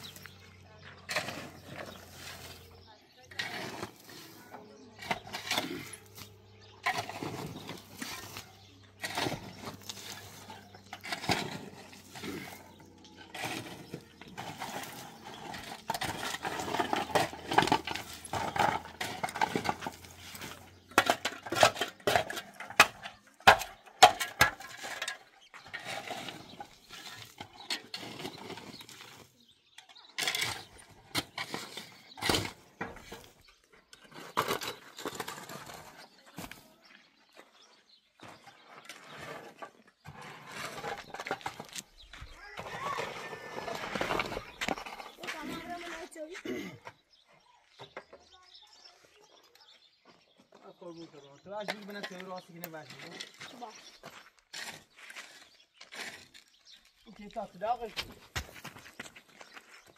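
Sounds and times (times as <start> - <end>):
hard objects clattering: 0.0 - 48.4, 51.4 - 59.9.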